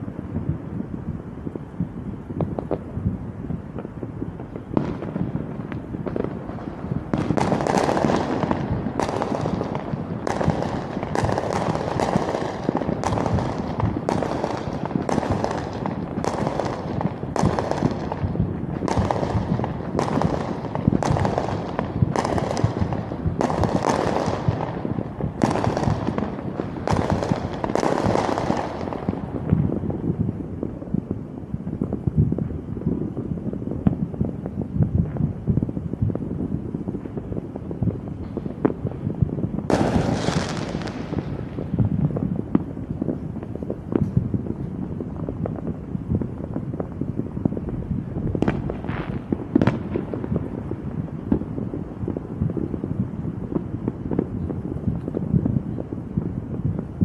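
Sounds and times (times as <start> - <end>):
fireworks bangs with crackling: 0.0 - 57.0
light firework pops: 1.4 - 31.1, 31.7 - 56.9.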